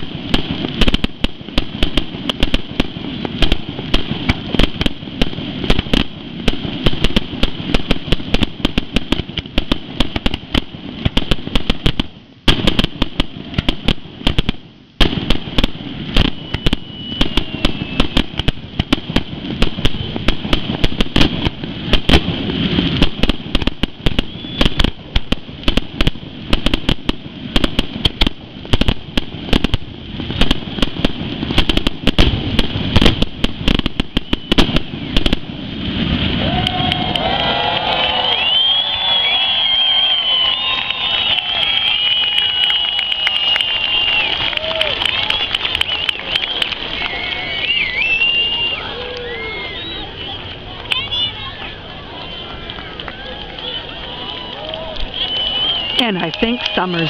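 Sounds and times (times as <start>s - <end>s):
fireworks bursting with bangs: 0.0s - 57.0s.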